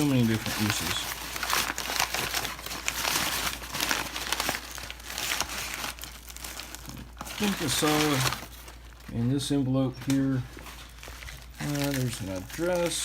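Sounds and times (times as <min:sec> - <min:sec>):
packing paper crinkling: 0:00.0 - 0:13.0.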